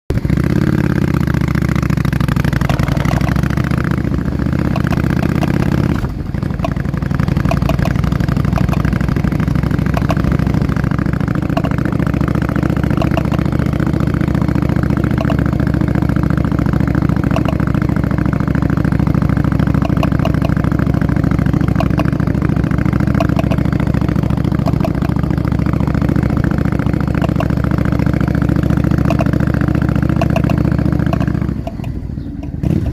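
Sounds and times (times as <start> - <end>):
motorcycle engine running: 0.1 - 32.9
wheel clicking: 1.8 - 32.9.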